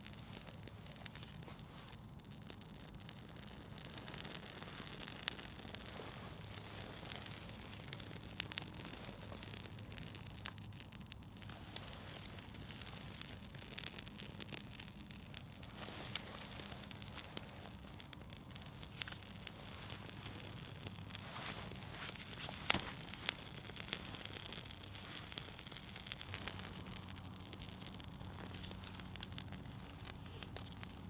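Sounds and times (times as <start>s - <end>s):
small fire crackling: 0.0s - 31.0s.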